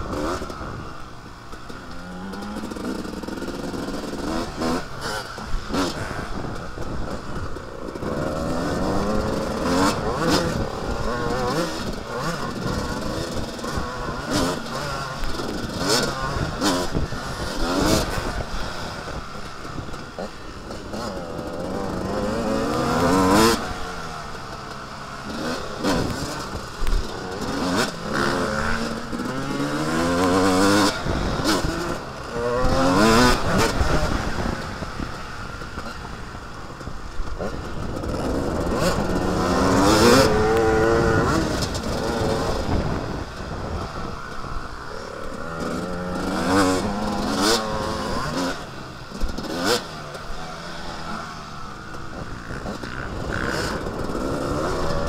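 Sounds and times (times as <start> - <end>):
wind noise on microphone: 0.0 - 1.3, 2.2 - 24.6, 25.3 - 50.4, 51.2 - 55.0
motocross bike engine revving: 0.0 - 55.0.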